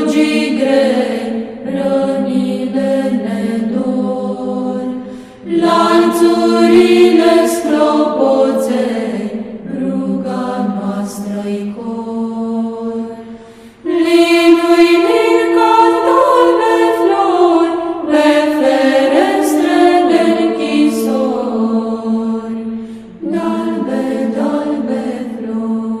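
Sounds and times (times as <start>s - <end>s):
choir singing a carol: 0.0s - 26.0s.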